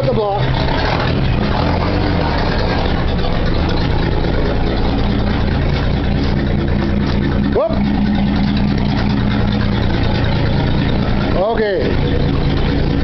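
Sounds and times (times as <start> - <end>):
pickup engine running steadily: 0.0 - 13.0.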